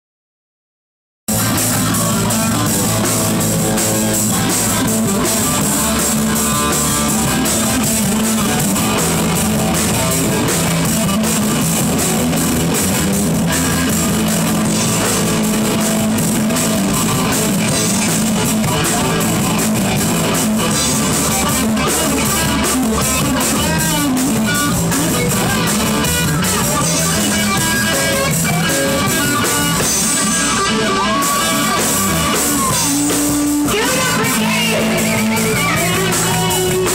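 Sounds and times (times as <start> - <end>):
drum kit: 1.3 - 36.9
electric bass: 1.3 - 36.9
electric guitar: 1.3 - 36.9.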